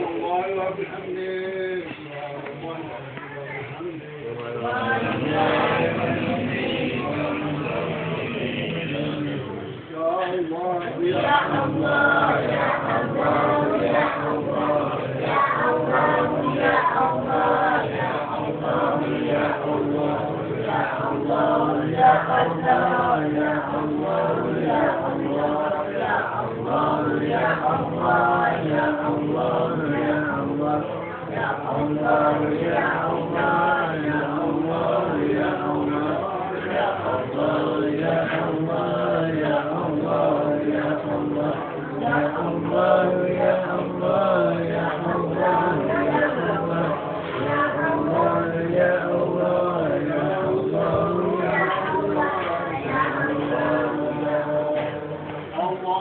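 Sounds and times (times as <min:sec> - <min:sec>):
men chanting in unison: 0:04.1 - 0:56.0.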